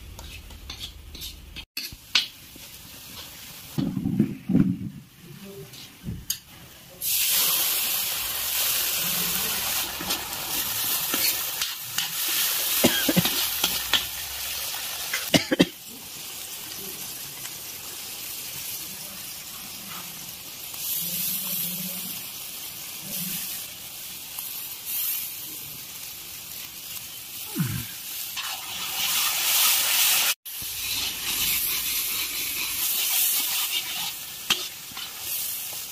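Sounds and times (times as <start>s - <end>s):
masala sizzling in hot oil: 0.0s - 4.3s, 5.0s - 35.9s.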